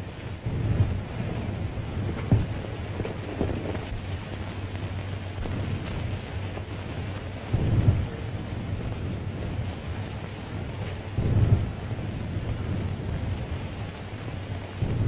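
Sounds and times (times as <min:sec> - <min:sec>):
film soundtrack hiss and hum: 0:00.0 - 0:15.0
low rumbling swells: 0:00.0 - 0:15.0.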